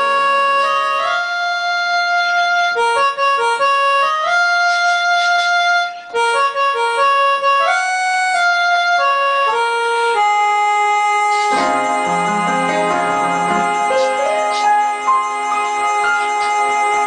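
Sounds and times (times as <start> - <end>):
electronic keyboard organ melody: 0.0 - 17.0.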